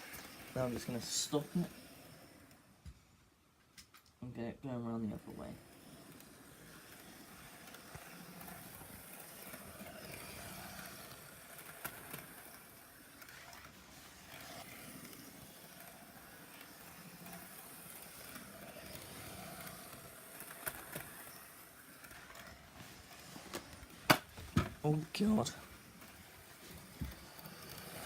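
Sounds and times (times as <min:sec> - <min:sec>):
wheels clicking over rail joints: 0:00.0 - 0:02.8, 0:04.8 - 0:28.0
model train motor hum: 0:00.0 - 0:28.0.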